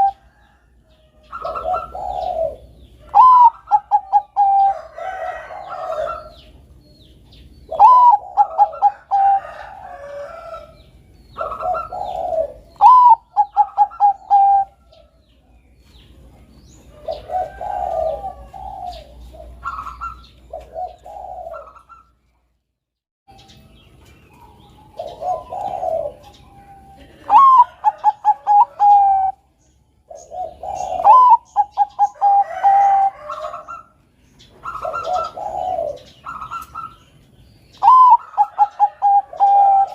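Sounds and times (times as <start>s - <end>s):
doves cooing: 0.0s - 6.8s, 7.4s - 15.2s, 16.6s - 22.2s, 24.4s - 39.9s
small birds chirping: 0.0s - 22.6s, 23.3s - 39.9s.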